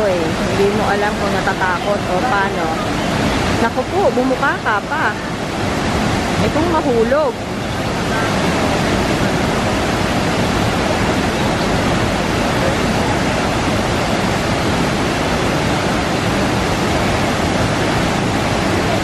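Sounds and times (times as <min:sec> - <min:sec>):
river rushing: 0:00.0 - 0:19.0
waterfall roaring: 0:00.0 - 0:19.0.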